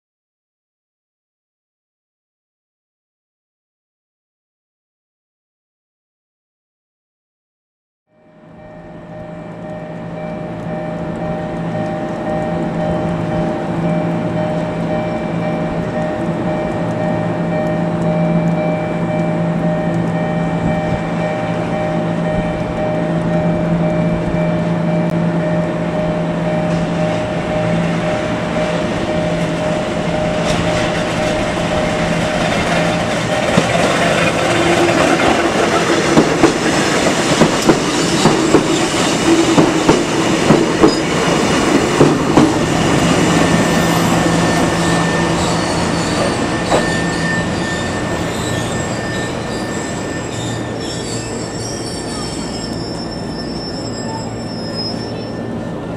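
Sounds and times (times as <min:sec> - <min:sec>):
electric train humming: 0:08.1 - 0:55.9
wheels clacking over rail joints: 0:09.0 - 0:54.2.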